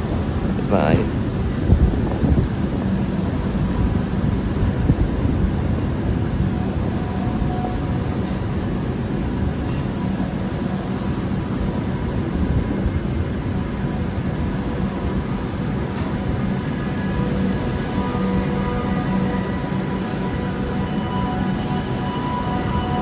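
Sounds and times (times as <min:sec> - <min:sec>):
train rumbling: 0:00.0 - 0:23.0.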